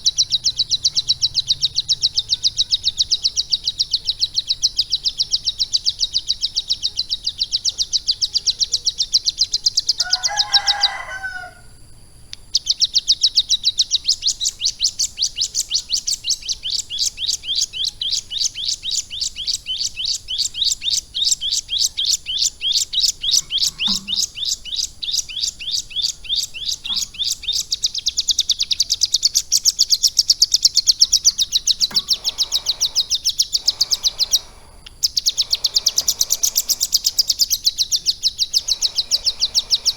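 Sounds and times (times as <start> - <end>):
bird singing rapid high chirps: 0.0 - 11.5, 12.5 - 39.9
lower bird call: 0.0 - 11.8, 12.6 - 39.9.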